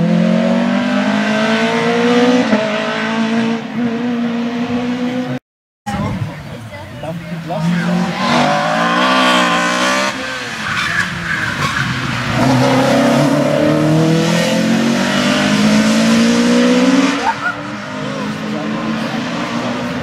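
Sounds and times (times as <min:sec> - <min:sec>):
rally car engine revving: 0:00.0 - 0:05.4, 0:07.4 - 0:20.0.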